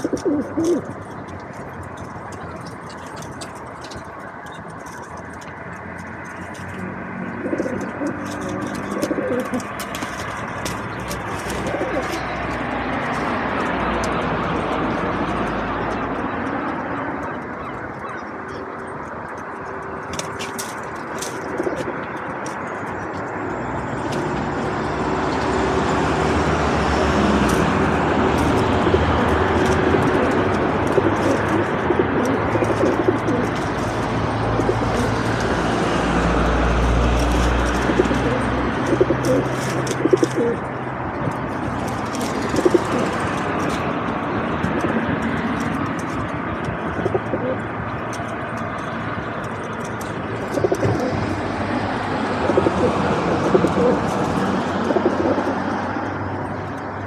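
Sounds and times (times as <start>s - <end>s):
pigeons cooing: 0.0s - 57.0s.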